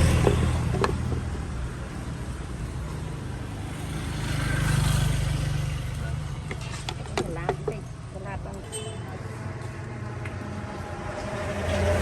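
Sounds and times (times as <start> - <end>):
vehicle engine passing: 0.0 - 6.9, 9.2 - 12.0.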